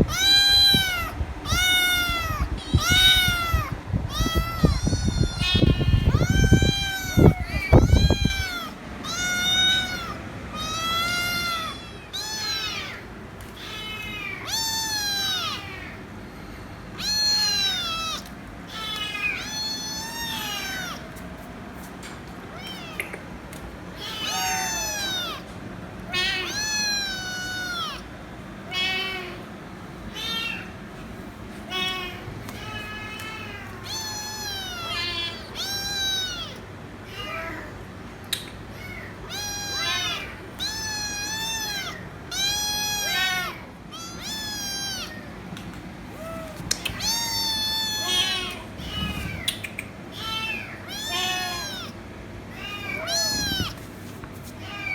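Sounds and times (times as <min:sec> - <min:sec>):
kitten meowing: 0:00.0 - 0:16.0, 0:17.0 - 0:21.2, 0:22.5 - 0:23.2, 0:24.0 - 0:25.5, 0:26.1 - 0:28.1, 0:28.7 - 0:29.4, 0:30.1 - 0:30.7, 0:31.7 - 0:37.7, 0:38.7 - 0:45.3, 0:46.1 - 0:53.9.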